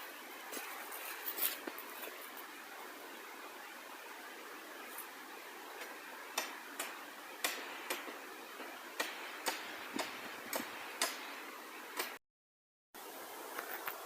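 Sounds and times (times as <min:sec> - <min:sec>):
steady hiss: 0:00.0 - 0:12.2, 0:13.0 - 0:14.0.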